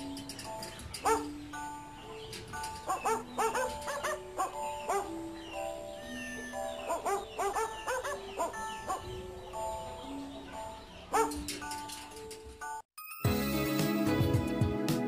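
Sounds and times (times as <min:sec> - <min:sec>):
puppies squeaking: 0:00.0 - 0:12.4
background music: 0:00.0 - 0:15.0.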